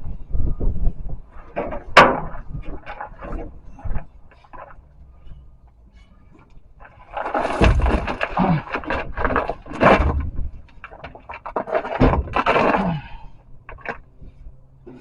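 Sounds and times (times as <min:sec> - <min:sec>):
metal tank scraping: 0:01.4 - 0:14.1.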